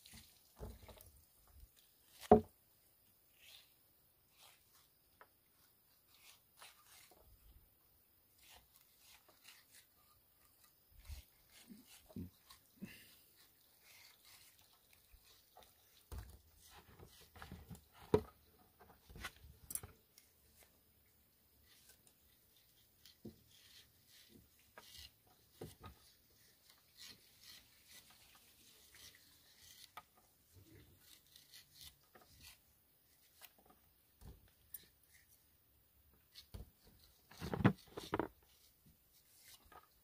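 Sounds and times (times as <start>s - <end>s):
knife cutting fruit: 2.0s - 2.5s, 3.3s - 7.5s, 8.3s - 20.7s, 21.6s - 35.4s, 36.2s - 40.0s.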